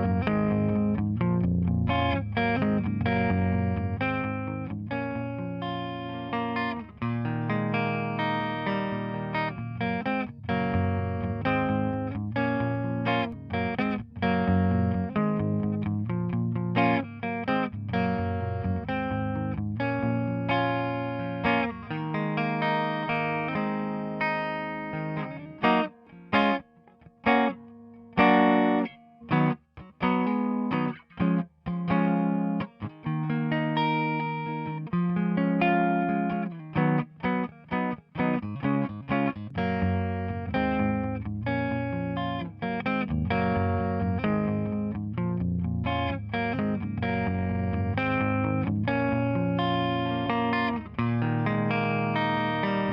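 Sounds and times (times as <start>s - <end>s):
electric guitar playing chords: 0.0s - 52.9s.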